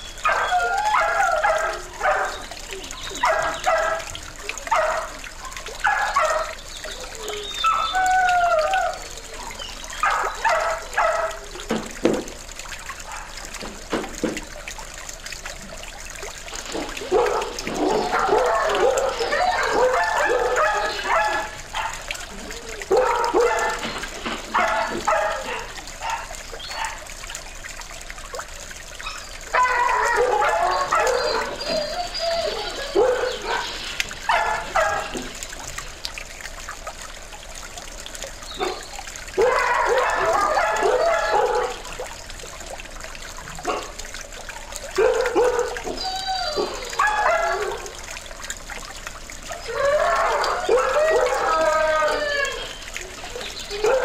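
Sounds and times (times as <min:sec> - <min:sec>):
dogs barking: 0:00.0 - 0:37.2, 0:37.8 - 0:54.0
fountain water trickling: 0:00.0 - 0:54.0.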